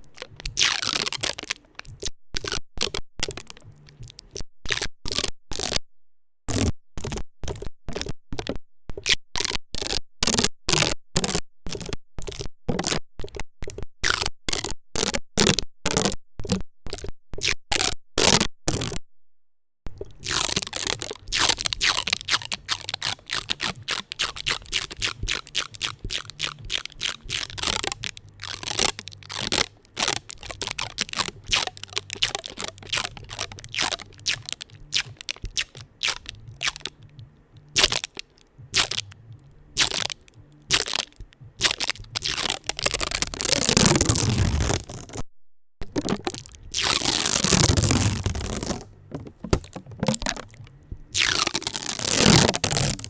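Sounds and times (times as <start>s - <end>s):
adhesive tape crackling and ripping: 0.0s - 5.8s, 6.5s - 13.4s, 14.0s - 19.0s, 20.0s - 37.1s, 37.7s - 39.2s, 39.8s - 45.2s, 45.8s - 53.0s.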